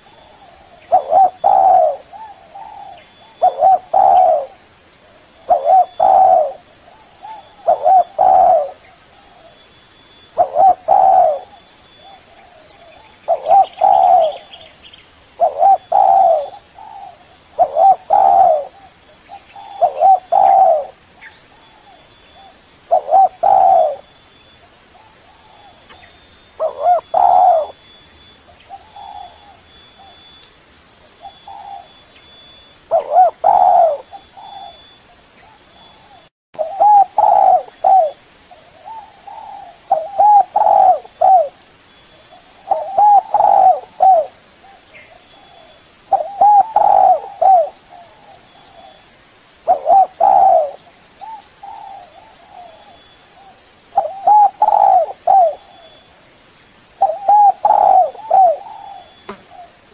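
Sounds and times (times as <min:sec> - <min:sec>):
dove cooing: 0:00.0 - 0:09.6, 0:10.4 - 0:14.8, 0:15.4 - 0:24.1, 0:24.9 - 0:30.2, 0:31.2 - 0:32.1, 0:32.9 - 0:41.6, 0:42.3 - 0:56.0, 0:57.0 - 0:59.7.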